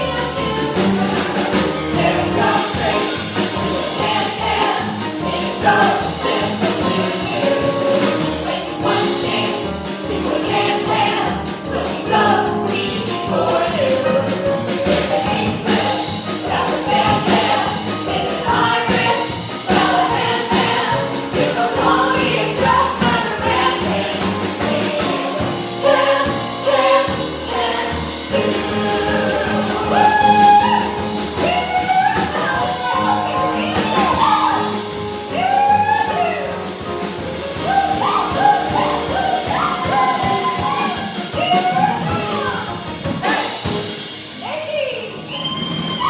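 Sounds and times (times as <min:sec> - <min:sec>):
instrumental accompaniment: 0:00.0 - 0:44.4
voices singing a song: 0:00.0 - 0:46.0.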